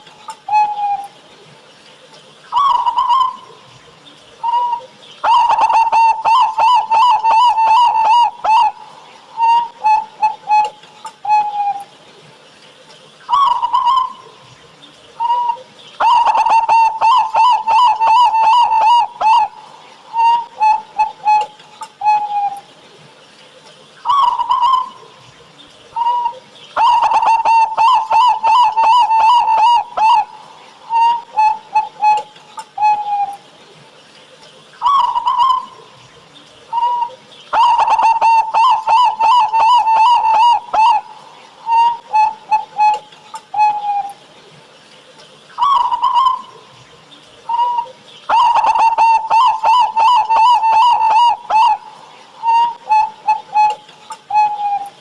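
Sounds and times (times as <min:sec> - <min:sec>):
dove cooing: 0:02.5 - 0:11.9, 0:13.3 - 0:14.5, 0:15.2 - 0:22.7, 0:24.1 - 0:33.5, 0:34.4 - 0:44.2, 0:44.8 - 0:55.0.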